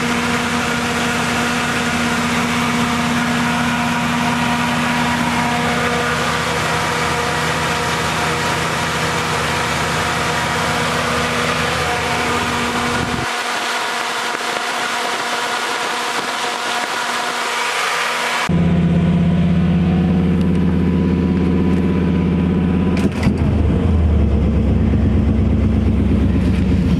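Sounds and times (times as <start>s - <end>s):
truck engine idling: 0.0s - 17.4s, 18.2s - 26.9s.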